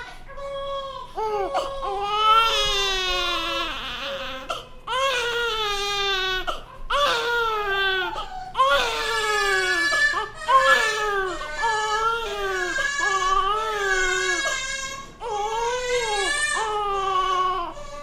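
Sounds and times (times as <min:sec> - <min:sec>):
infant crying: 0:00.0 - 0:18.0.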